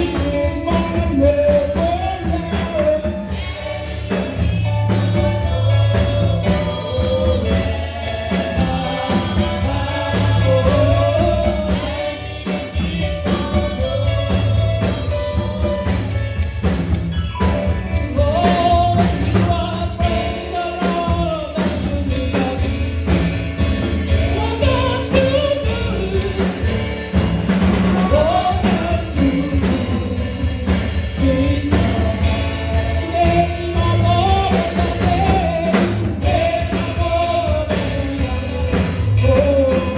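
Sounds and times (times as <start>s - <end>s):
bass and drums: 0.0s - 39.9s
gospel choir singing: 0.0s - 39.9s.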